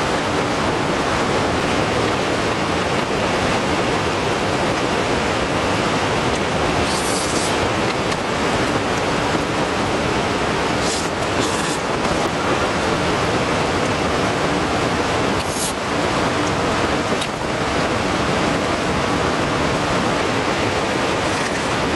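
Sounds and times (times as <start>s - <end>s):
heavy rain pouring: 0.0s - 21.9s.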